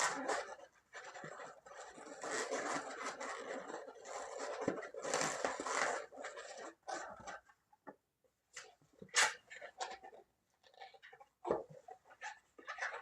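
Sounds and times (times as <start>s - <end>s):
balloon latex rubbing and scraping: 0.0s - 7.4s, 9.2s - 13.0s.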